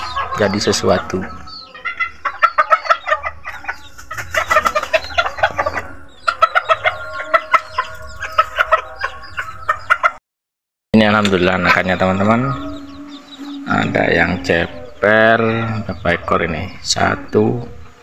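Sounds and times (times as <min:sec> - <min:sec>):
chickens clucking: 0:00.0 - 0:10.2, 0:11.0 - 0:18.0.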